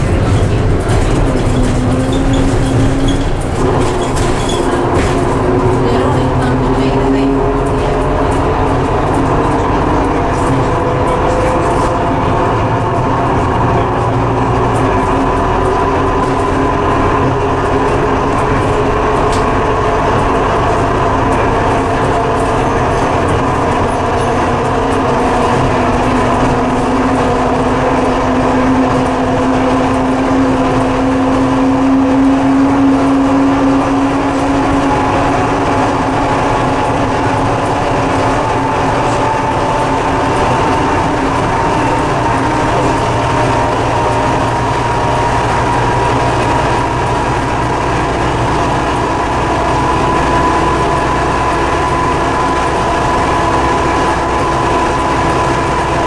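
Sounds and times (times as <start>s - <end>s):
bus tyres rumbling: 0.0s - 56.0s
drivetrain whine: 0.0s - 56.0s.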